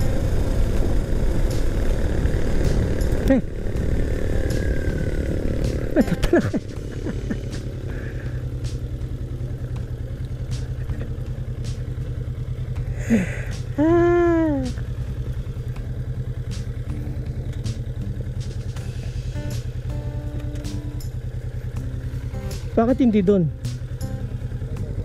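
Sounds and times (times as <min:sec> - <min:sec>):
motorcycle engine at low speed: 0:00.0 - 0:25.0.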